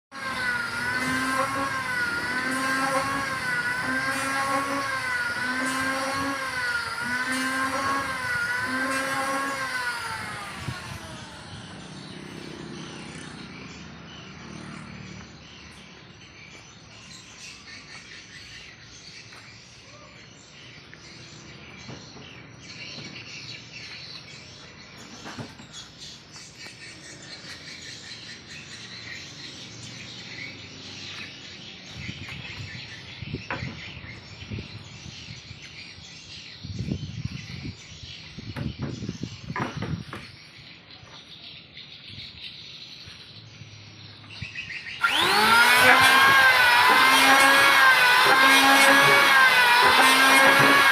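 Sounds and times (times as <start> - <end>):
birds chirping: 0.2 - 50.9.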